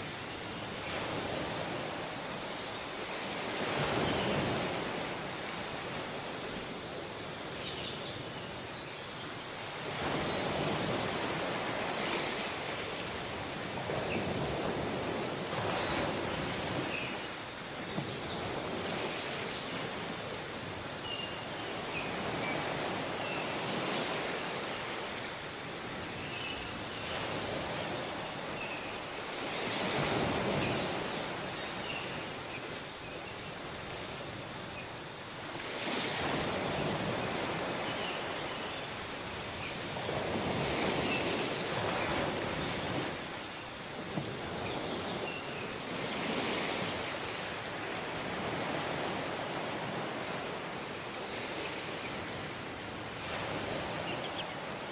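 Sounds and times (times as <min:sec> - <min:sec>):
waves breaking on beach: 0:00.0 - 0:08.1, 0:08.8 - 0:54.9.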